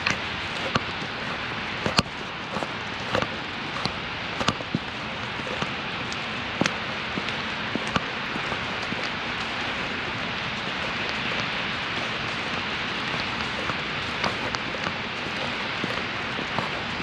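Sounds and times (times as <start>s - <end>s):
sharp ticks and taps: 0.0s - 1.1s, 1.8s - 17.0s
hiss of falling precipitation: 1.4s - 17.0s.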